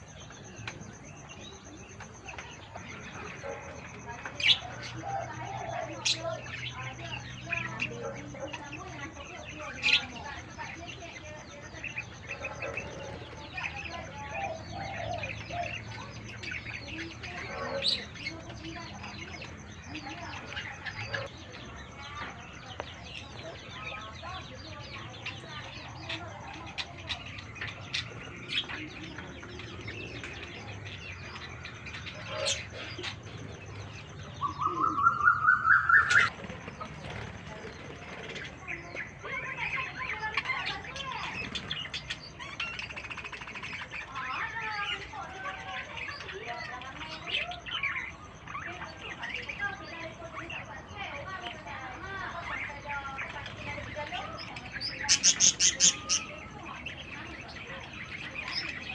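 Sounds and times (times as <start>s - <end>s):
budgerigars chirping and warbling: 0.0s - 58.9s.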